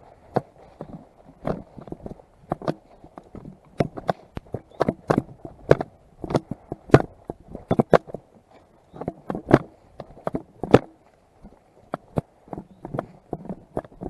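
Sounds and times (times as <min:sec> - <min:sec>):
footsteps walking: 0:00.0 - 0:14.0.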